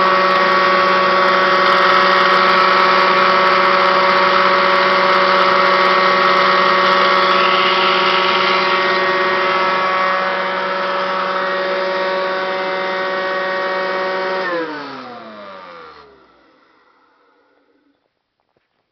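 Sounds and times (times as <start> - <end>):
vacuum cleaner whining: 0.0 - 18.1.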